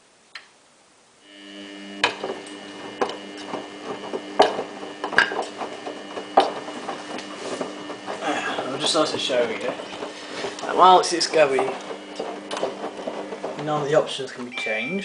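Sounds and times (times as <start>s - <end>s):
washing machine motor hum: 1.2s - 15.0s.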